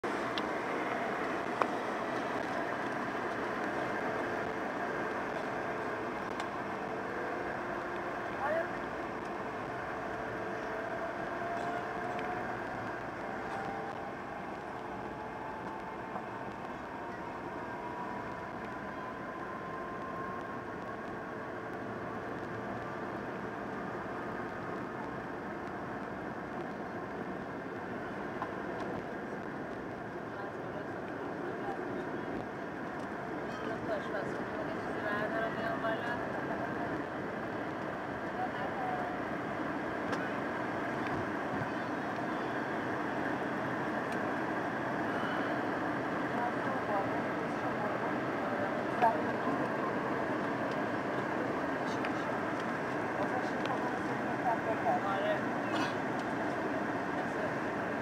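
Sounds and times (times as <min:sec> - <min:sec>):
airplane cabin jet engine noise: 0:00.0 - 0:58.0
faint high whine: 0:00.0 - 0:58.0.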